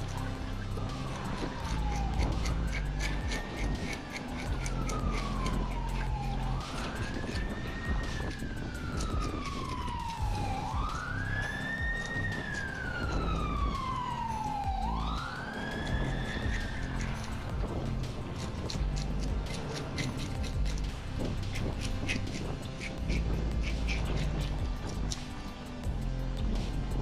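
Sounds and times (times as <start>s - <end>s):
emergency siren wailing: 0.0s - 25.4s
background music: 0.0s - 27.0s.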